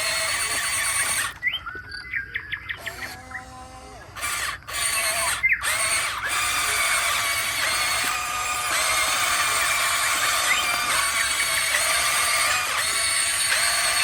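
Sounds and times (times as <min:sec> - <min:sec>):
toy electric motors whining: 0:00.0 - 0:01.6, 0:02.8 - 0:14.0.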